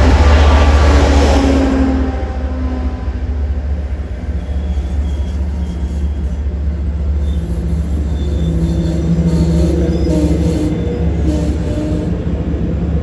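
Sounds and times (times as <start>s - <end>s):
diesel train rumbling past: 0.0s - 13.0s.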